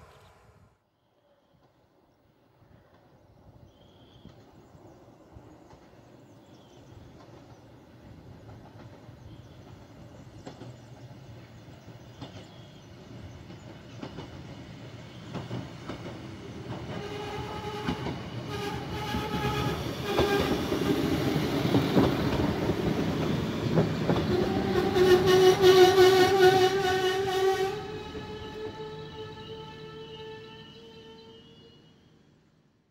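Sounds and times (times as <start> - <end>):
diesel railcar approaching: 1.4 - 32.8.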